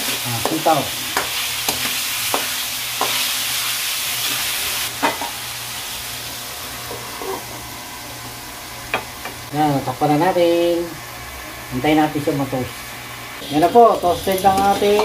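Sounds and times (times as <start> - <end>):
pork sizzling in a wok: 0.0 - 15.0.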